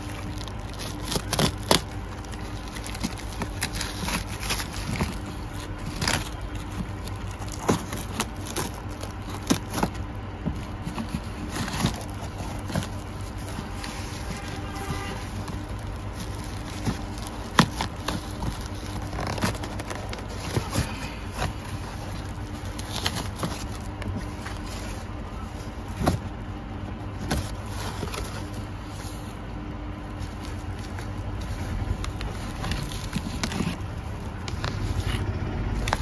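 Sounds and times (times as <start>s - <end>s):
cardboard box being opened: 0.0s - 26.4s, 27.0s - 29.4s, 30.0s - 36.0s.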